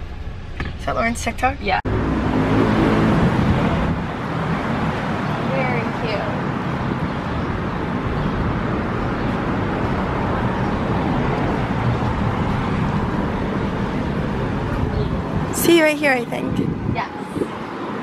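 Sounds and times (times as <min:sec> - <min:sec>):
city street traffic rumble: 0:00.0 - 0:18.0.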